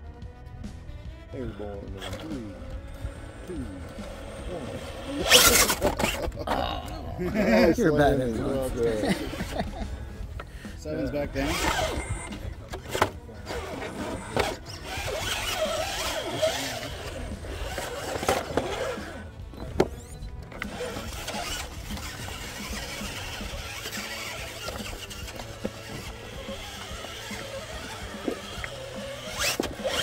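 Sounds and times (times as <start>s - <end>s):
toy car motor whining: 0.2s - 30.0s.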